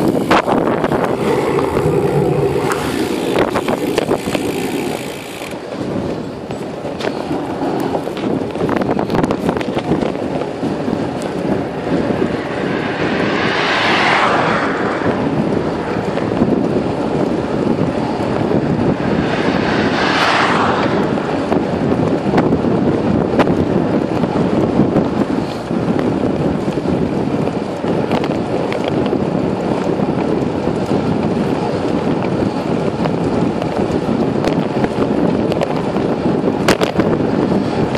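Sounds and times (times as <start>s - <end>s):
tyres rumbling on road: 0.0s - 37.9s
wind on microphone: 0.0s - 37.9s.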